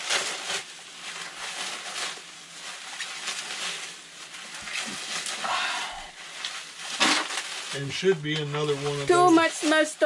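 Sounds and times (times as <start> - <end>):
packing material rustling: 0.0 - 10.0.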